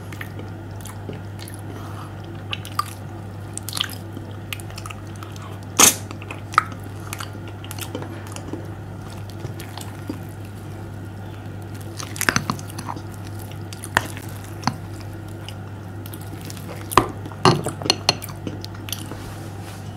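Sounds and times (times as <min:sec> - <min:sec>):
slime squishing: 0:00.0 - 0:19.5
steady low hum: 0:00.0 - 0:19.9.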